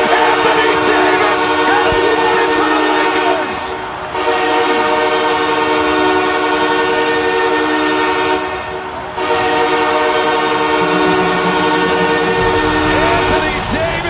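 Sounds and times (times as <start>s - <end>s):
arena crowd roaring: 0.0s - 14.0s
arena goal horn blast: 0.0s - 14.0s.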